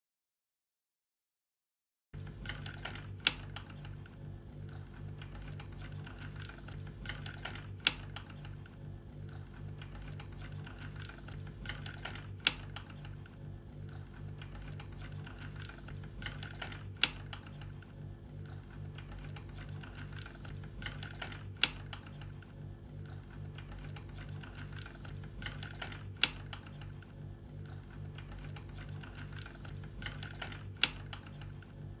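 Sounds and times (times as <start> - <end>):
steady low hum: 2.2 - 32.0.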